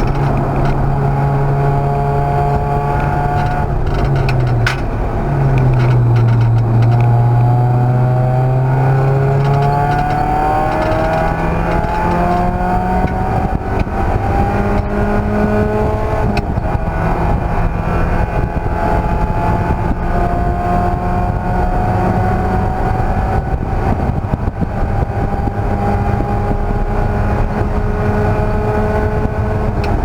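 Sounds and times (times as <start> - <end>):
race car engine accelerating: 0.0 - 30.0.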